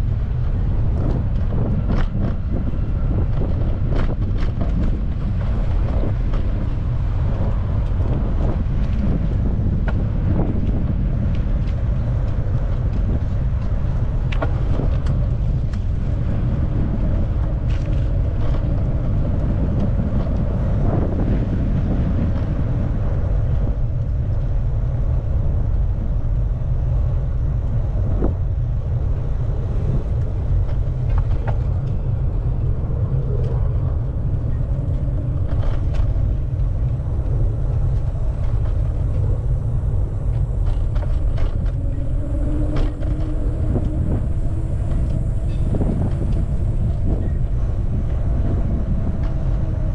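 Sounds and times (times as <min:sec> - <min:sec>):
street traffic: 0:00.0 - 0:49.9
wind rumble on microphone: 0:00.0 - 0:49.9.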